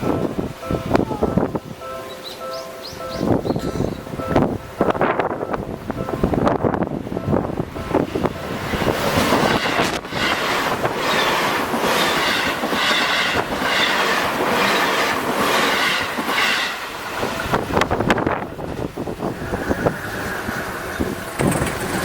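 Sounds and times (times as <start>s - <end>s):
train passing over level crossing: 0.0s - 22.0s
wheels clacking on rails: 0.0s - 22.0s.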